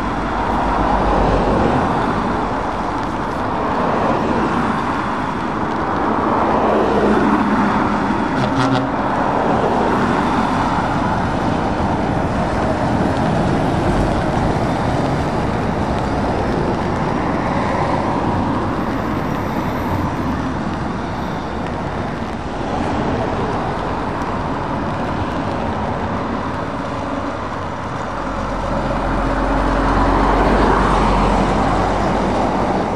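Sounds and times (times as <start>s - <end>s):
road traffic passing: 0.0s - 32.9s
truck diesel engine rumble: 0.0s - 32.9s.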